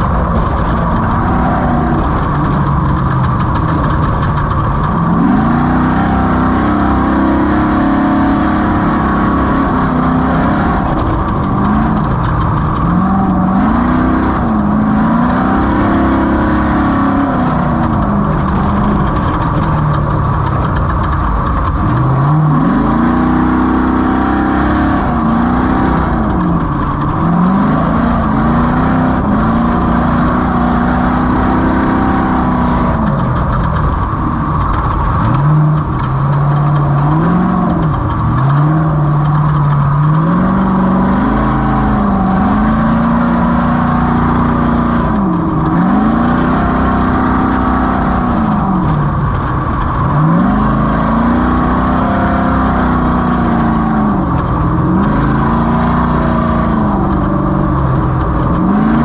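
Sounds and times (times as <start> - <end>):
off-road vehicle engine running hard: 0.0 - 59.0
wind and terrain noise: 0.0 - 59.0.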